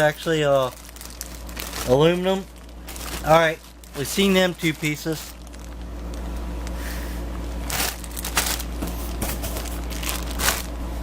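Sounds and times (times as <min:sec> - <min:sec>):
plastic packaging crinkling: 0:00.0 - 0:06.8, 0:07.6 - 0:10.8
steady low hum: 0:00.0 - 0:11.0.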